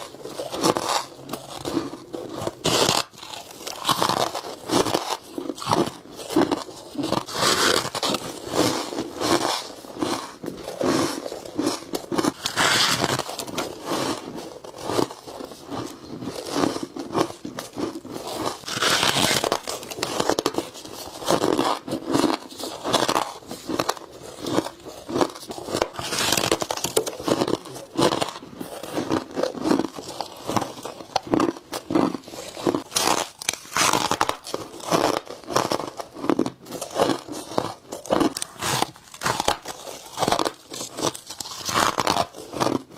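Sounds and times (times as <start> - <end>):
crunching bites of ice: 0.0 - 42.9.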